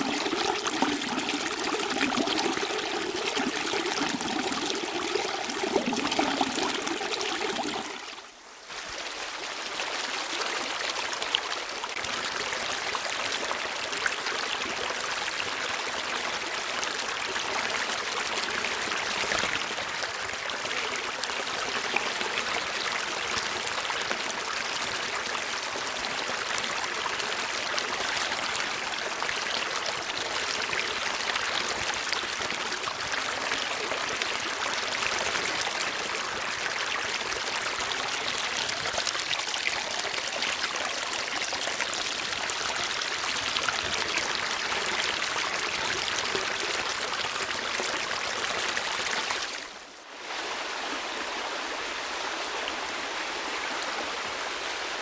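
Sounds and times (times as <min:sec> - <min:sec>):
stream water trickling: 0:00.0 - 0:54.9.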